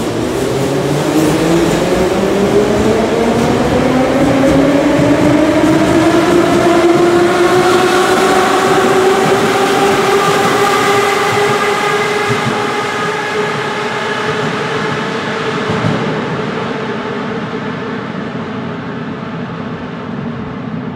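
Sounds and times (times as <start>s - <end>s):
metro train whining and rumbling: 0.0s - 20.9s.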